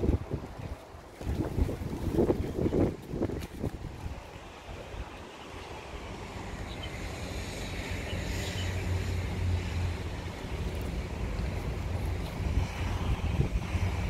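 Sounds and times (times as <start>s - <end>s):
passing road traffic: 0.0s - 14.0s
wind rumble on microphone: 0.0s - 14.0s.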